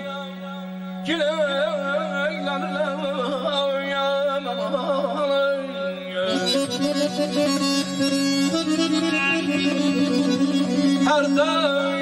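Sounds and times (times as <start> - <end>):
instrumental accompaniment: 0.0 - 12.0
person singing through loudspeakers: 0.0 - 12.0.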